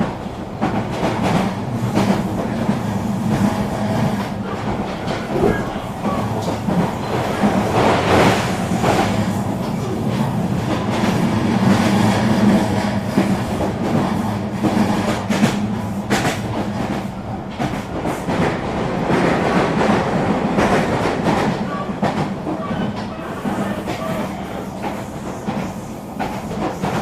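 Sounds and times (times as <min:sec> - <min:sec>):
electric train rumble and hum: 0:00.0 - 0:27.0.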